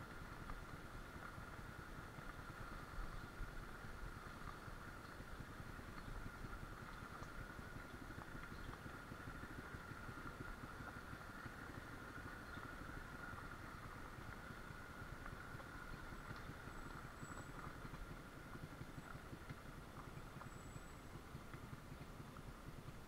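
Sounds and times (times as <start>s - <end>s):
small motorbike engine running: 0.0s - 23.0s.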